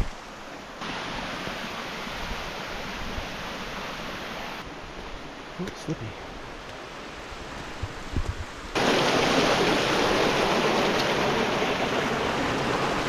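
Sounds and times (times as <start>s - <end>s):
creek water rushing over rock: 0.0s - 13.0s.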